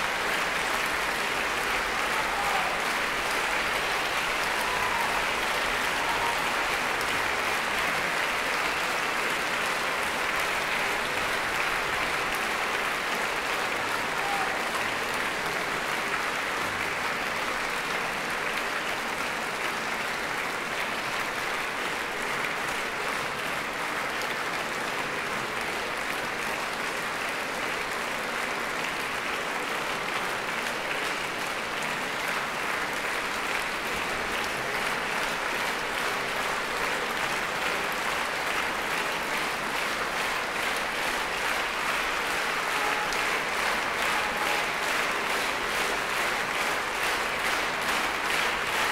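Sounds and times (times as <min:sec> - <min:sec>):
audience applauding: 0:00.0 - 0:48.9.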